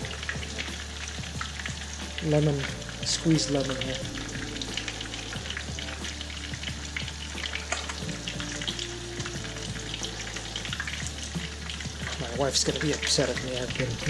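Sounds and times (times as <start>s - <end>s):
fish frying in sizzling oil: 0.0s - 14.0s.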